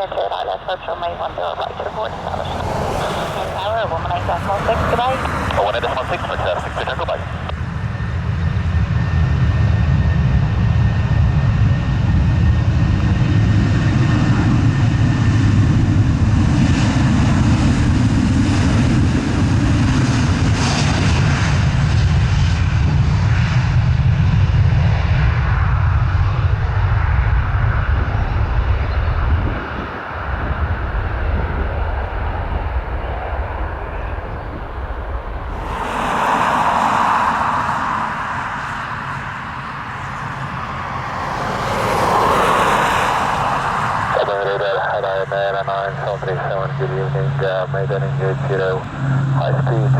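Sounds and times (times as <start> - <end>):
airliner engines rumbling past: 0.0 - 49.9.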